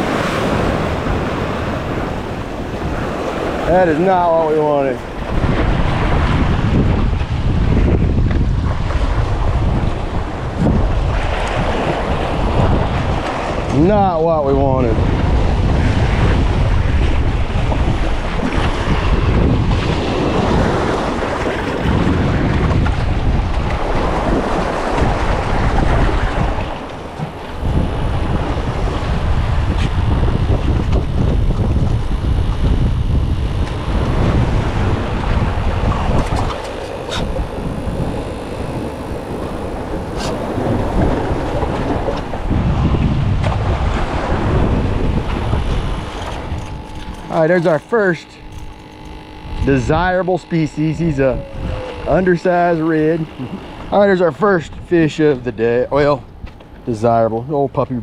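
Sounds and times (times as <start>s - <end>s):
ocean surf washing in: 0.0s - 48.5s
wind buffeting microphone: 0.0s - 58.0s.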